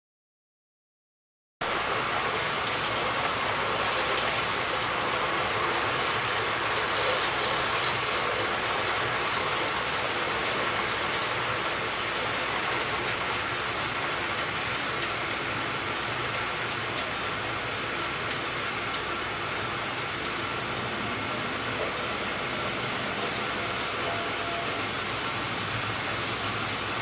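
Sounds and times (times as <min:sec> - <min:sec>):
model train running: 0:01.6 - 0:27.0.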